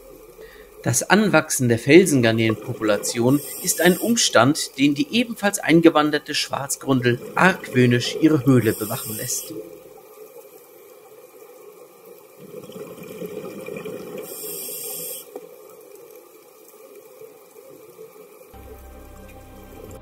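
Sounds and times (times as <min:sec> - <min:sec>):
hissing bubbles: 0:00.0 - 0:16.0
underwater watery rush: 0:00.0 - 0:20.0.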